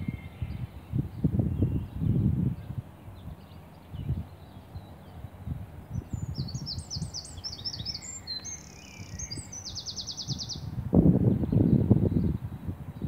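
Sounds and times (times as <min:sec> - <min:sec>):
songbird chirping and trilling: 0:00.0 - 0:13.0.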